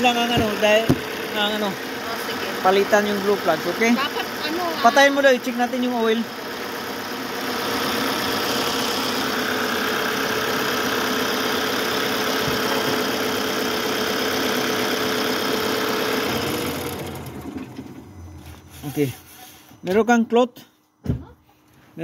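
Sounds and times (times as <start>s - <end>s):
diesel engine idling: 0.0s - 19.8s.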